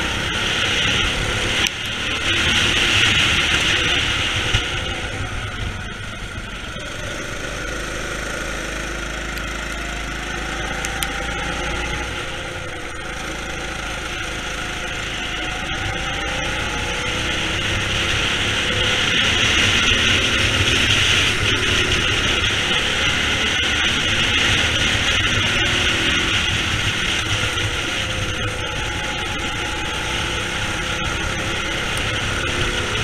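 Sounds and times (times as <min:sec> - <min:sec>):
go-kart engine: 0:00.0 - 0:33.0
steady rushing noise: 0:00.0 - 0:33.0.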